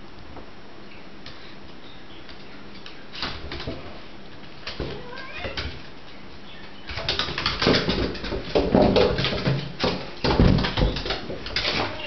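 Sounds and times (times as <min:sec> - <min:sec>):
animals scuffling on wooden floor: 0:02.1 - 0:12.0.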